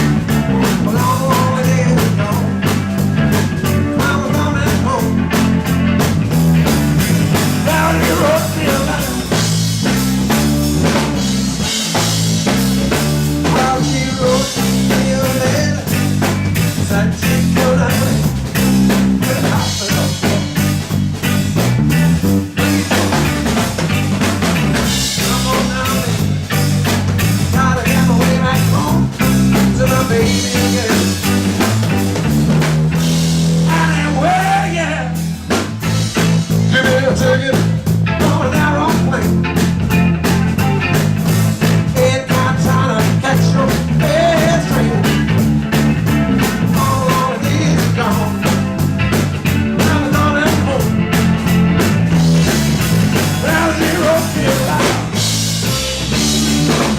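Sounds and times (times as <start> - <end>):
bass guitar: 0.0 - 56.9
drum kit beat: 0.0 - 56.9
electric guitar with bending notes: 0.0 - 56.9.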